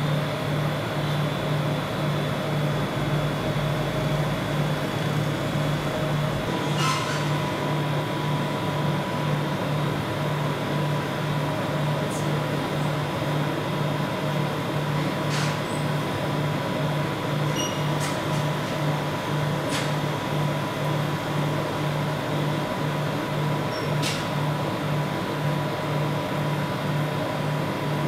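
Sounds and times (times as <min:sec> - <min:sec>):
refrigeration machine hum: 0:00.0 - 0:28.0.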